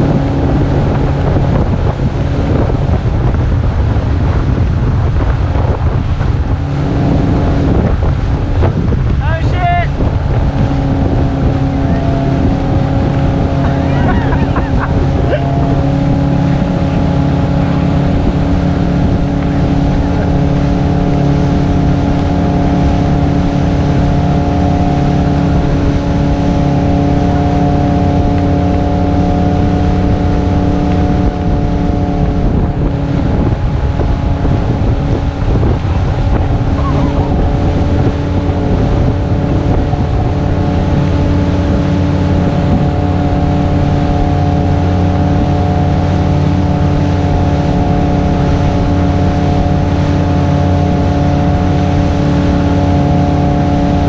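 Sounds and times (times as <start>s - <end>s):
churning wake rushing: 0.0s - 54.0s
motorboat engine running: 0.0s - 54.0s
rough rushing noise: 0.0s - 54.0s.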